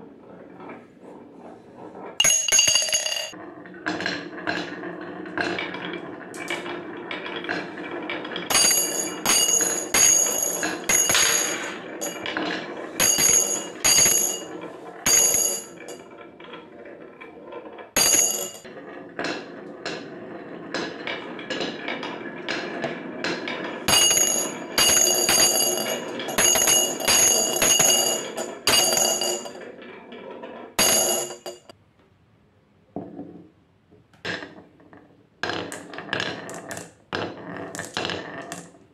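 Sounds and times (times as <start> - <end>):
marbles rolling on wooden track: 0.0 - 31.8, 32.9 - 33.5, 34.2 - 38.9.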